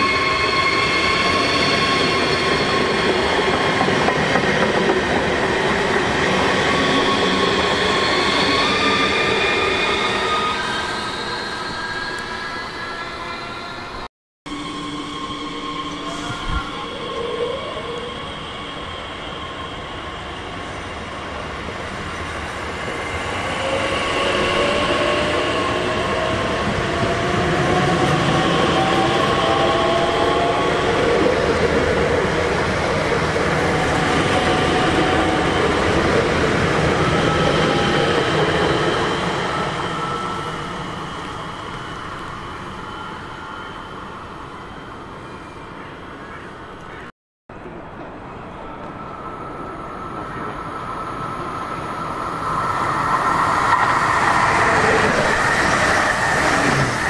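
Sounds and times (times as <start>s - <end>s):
train passing: 0.0s - 57.0s.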